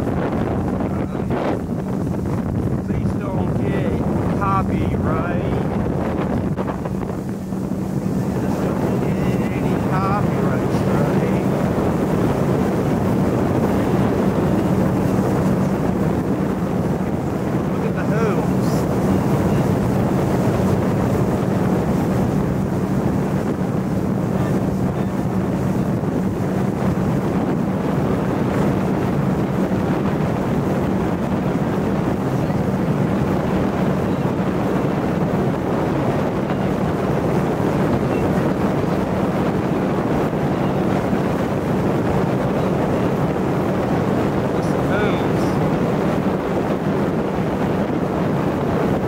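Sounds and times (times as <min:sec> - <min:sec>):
boat motor running: 0:00.0 - 0:49.0
wind buffeting microphone: 0:00.0 - 0:49.0.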